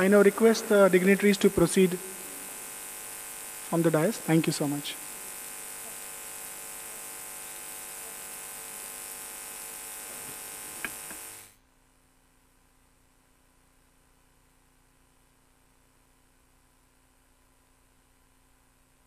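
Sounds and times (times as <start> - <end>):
microphone line hiss and hum: 0.0 - 19.0.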